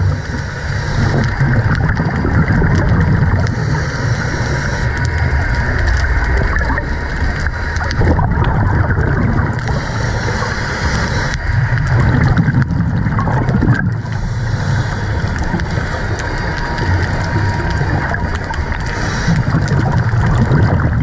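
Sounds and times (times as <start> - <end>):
muffled underwater noise: 0.0 - 21.0
regulator exhaust bubbles gurgling: 0.0 - 21.0.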